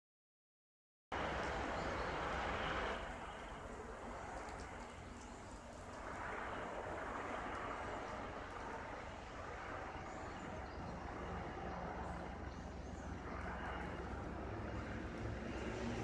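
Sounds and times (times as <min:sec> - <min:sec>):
distant helicopters droning: 0:01.1 - 0:16.0.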